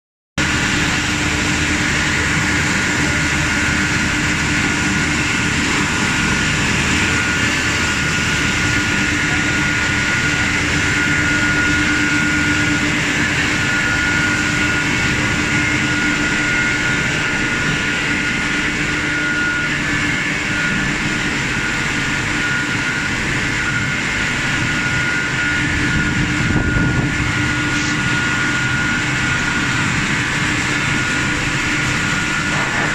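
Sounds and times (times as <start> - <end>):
factory machinery din: 0.4 - 32.9
high machine whine: 0.4 - 32.9.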